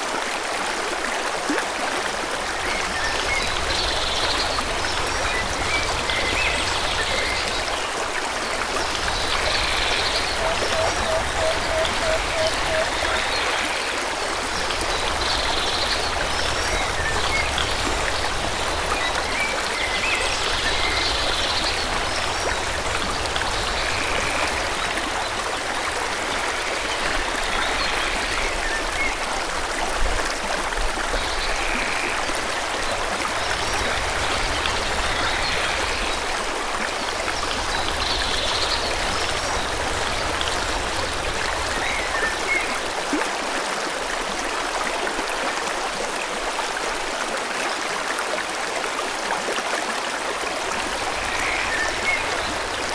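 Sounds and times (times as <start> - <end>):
forest stream flowing: 0.0 - 52.9.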